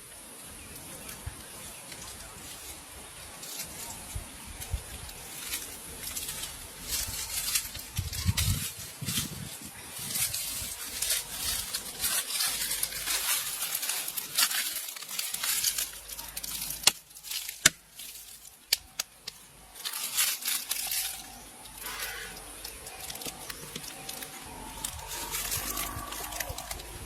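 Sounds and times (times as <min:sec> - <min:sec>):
rustling tearing handling noise: 0:00.7 - 0:27.0.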